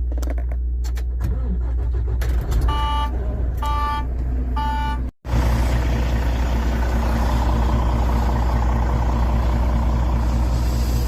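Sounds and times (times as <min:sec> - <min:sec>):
truck engine low drone: 0:00.0 - 0:11.0.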